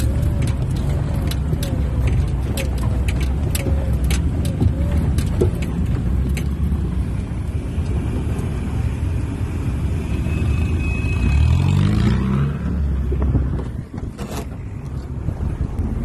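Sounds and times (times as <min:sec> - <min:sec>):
jeep engine running and revving: 0:00.0 - 0:16.0.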